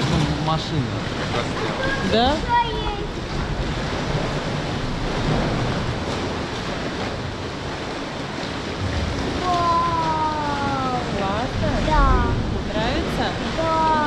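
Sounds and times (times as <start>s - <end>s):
sea water sloshing against rock: 0.0s - 14.0s.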